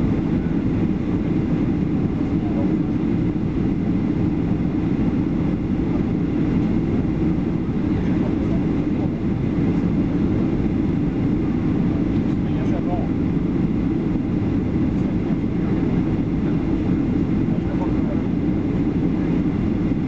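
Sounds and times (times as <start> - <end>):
airplane cabin engine roar: 0.0 - 20.0.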